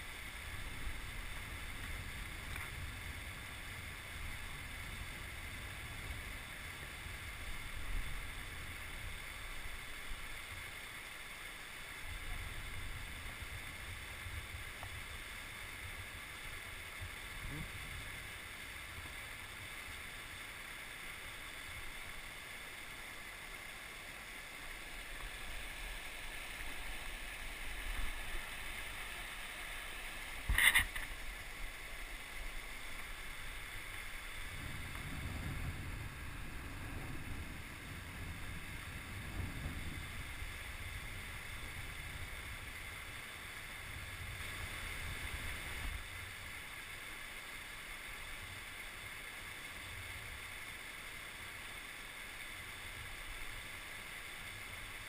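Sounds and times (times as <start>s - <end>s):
river rushing through rapids: 0.0s - 55.0s.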